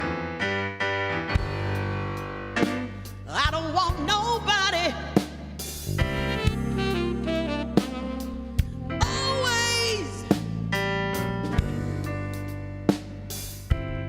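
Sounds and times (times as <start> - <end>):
blues band playing: 0.0 - 14.0.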